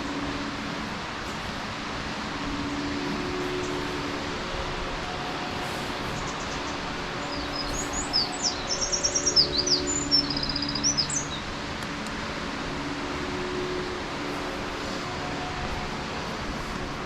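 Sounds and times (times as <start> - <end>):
waterfall rushing: 0.0 - 17.0
songbird singing: 2.4 - 16.9.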